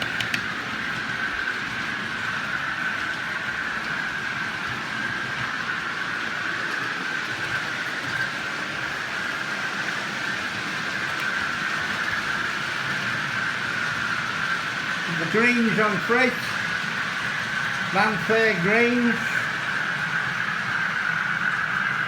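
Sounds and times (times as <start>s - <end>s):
model trains whirring on track: 0.0s - 22.0s.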